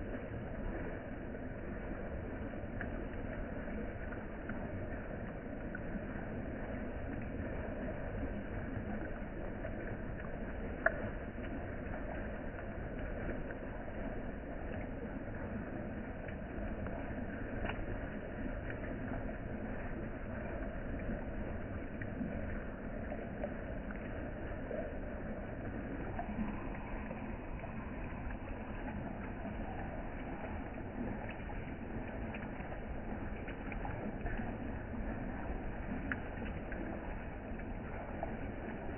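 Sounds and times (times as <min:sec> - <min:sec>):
rain on pond surface: 0:00.0 - 0:38.9
water drop plinks: 0:00.0 - 0:38.9.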